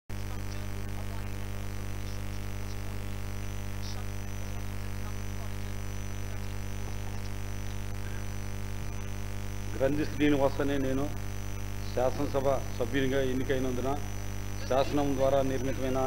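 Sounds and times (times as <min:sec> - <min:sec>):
electrical mains hum: 0:00.1 - 0:16.0.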